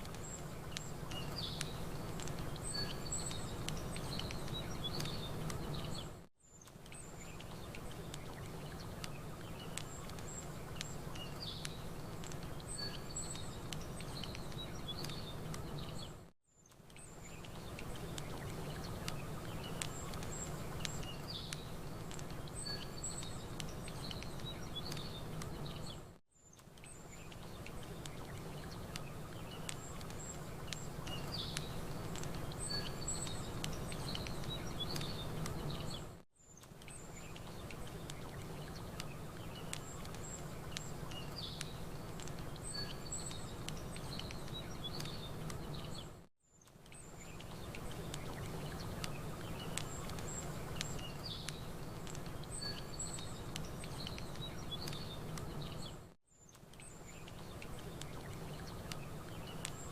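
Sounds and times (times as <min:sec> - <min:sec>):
campfire crackling: 0:00.0 - 0:59.9
small birds chirping: 0:00.0 - 0:59.9.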